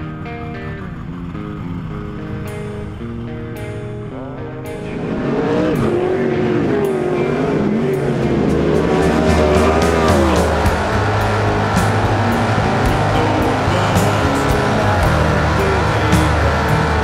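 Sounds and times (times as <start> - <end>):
race car engine revving: 0.0 - 17.0
rock music: 0.0 - 17.0.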